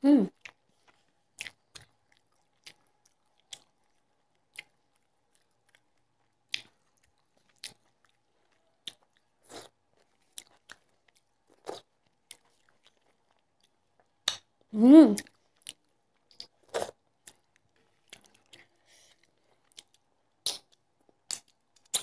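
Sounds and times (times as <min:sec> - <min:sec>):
person chewing food: 0:00.3 - 0:22.0.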